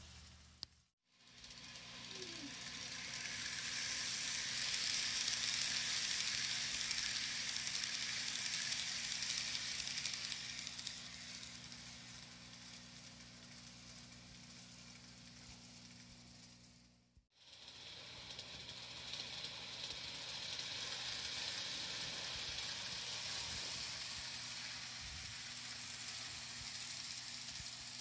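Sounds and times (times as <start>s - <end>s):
model train running on rails: 0.0s - 28.0s.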